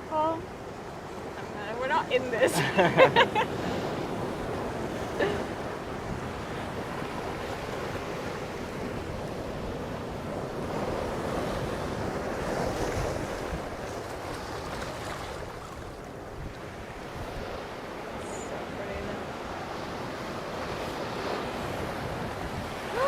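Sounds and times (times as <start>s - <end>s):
surf washing onto shore: 0.0s - 23.0s
wind on microphone: 3.5s - 23.0s.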